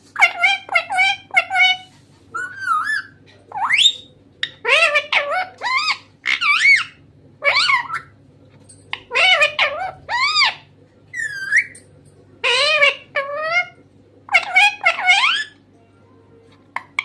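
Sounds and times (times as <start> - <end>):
parrot squawking: 0.2 - 8.1, 8.9 - 11.8, 12.4 - 15.6.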